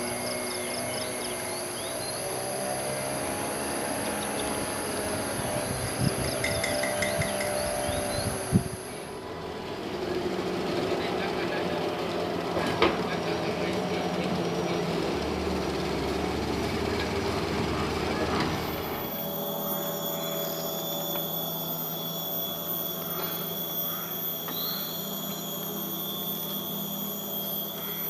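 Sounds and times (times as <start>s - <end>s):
insect chorus drones: 0.0s - 28.0s.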